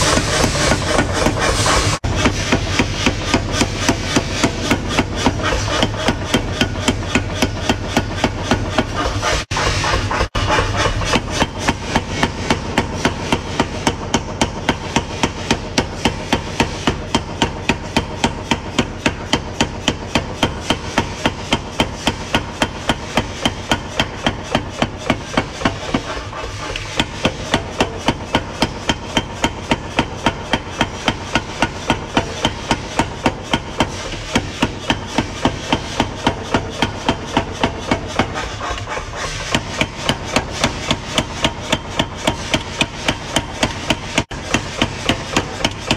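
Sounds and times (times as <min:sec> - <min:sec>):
power hammer heavy blows: 0:00.0 - 0:45.9.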